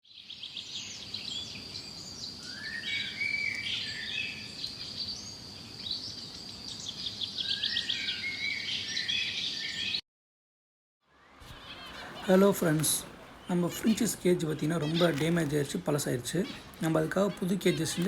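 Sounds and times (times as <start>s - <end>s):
finches chirping: 0.1s - 10.0s, 11.2s - 18.0s.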